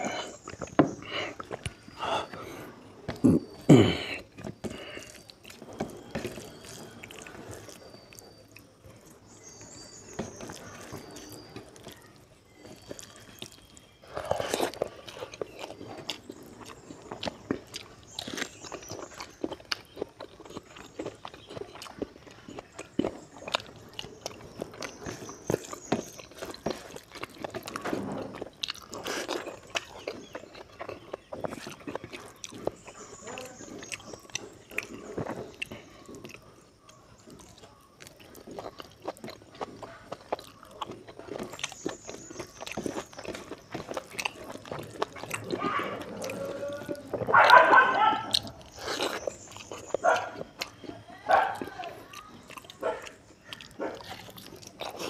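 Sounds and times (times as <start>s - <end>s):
chewing and lip smacking: 0.0s - 55.0s.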